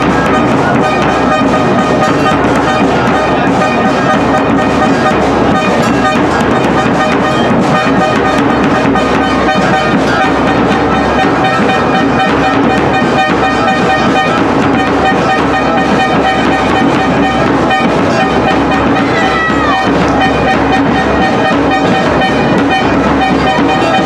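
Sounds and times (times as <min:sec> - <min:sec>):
blown horns: 0:00.0 - 0:24.0
quick drum hits: 0:00.0 - 0:24.0.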